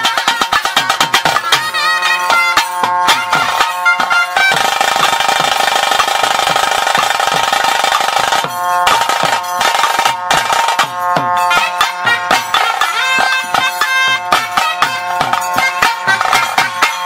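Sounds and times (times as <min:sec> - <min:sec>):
fast drum roll: 0:00.0 - 0:17.0
pipe melody: 0:00.0 - 0:17.0
wind instrument steady note: 0:01.4 - 0:17.0.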